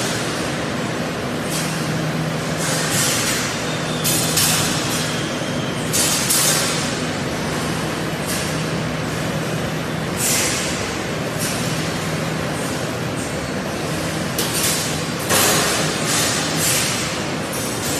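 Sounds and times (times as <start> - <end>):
factory machinery humming: 0.0 - 17.9.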